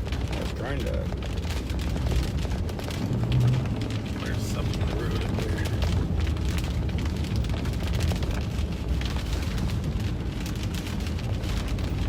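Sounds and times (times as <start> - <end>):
car driving from inside cabin: 0.0 - 12.0
rain pattering on car roof: 0.0 - 12.0.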